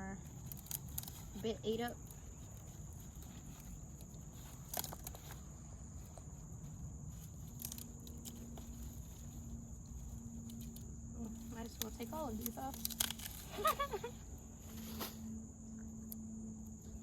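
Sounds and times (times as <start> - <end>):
crickets trilling: 0.0 - 17.0
low outdoor rumble: 0.0 - 17.0.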